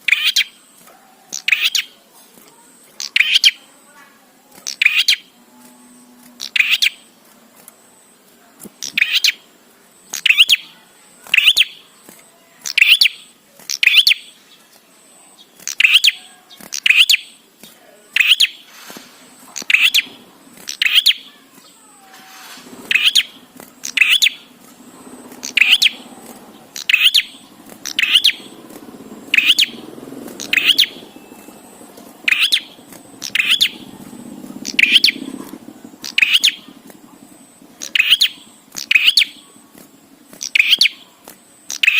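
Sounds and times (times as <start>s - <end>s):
songbird sharp chirps: 0.0s - 3.7s, 4.6s - 7.2s, 8.6s - 41.9s
faint low murmur: 0.6s - 41.9s.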